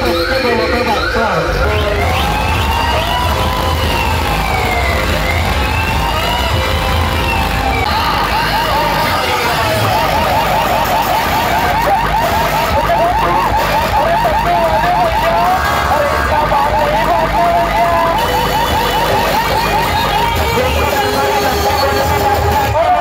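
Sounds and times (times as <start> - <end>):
siren-like warbling tone: 0.0 - 22.9
steady low bass: 1.4 - 22.8.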